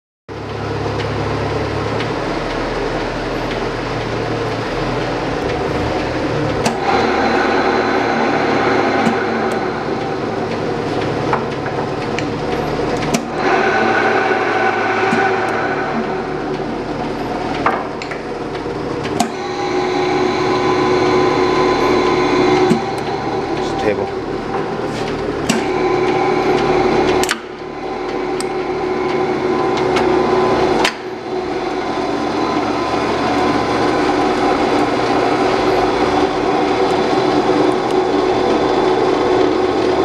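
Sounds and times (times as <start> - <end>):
milling machine motor drone: 0.3 - 40.0
gear whine: 0.7 - 40.0.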